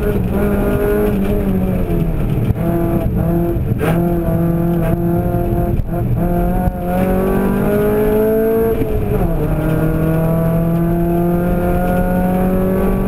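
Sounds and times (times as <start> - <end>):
race car engine from inside: 0.0 - 13.0.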